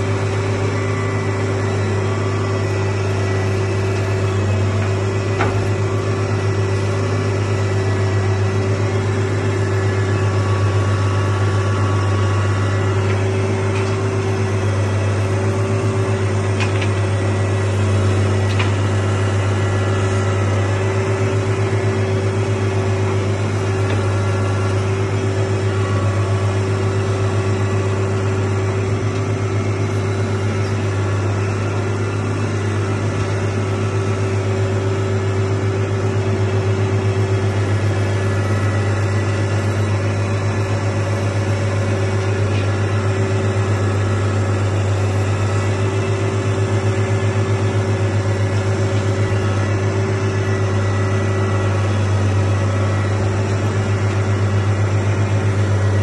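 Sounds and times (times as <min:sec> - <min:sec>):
machinery engine drone: 0:00.0 - 0:56.0.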